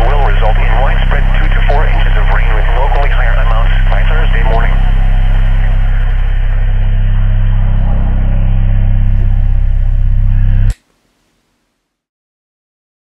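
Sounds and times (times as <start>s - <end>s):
radio speaker buzzing hum: 0.0s - 10.8s.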